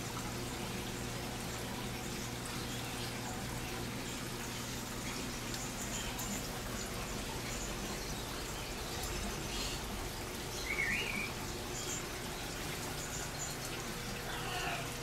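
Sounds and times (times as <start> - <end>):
faint drips: 0.0 - 15.0
water trickling in fish tanks: 0.0 - 15.0.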